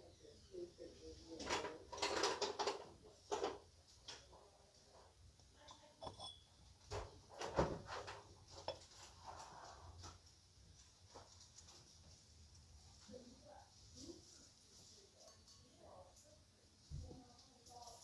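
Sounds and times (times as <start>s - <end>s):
faint store background noise: 0.0s - 18.0s.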